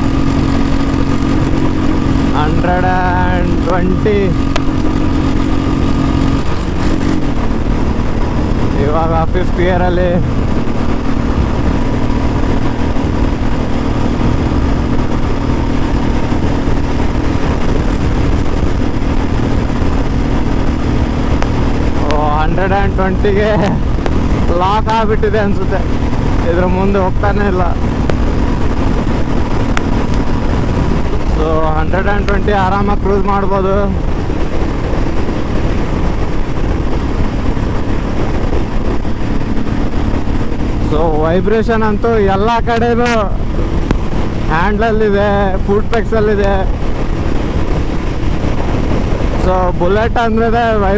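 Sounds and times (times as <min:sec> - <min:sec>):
motorcycle engine droning: 0:00.0 - 0:50.9
wind rush on microphone: 0:00.0 - 0:50.9.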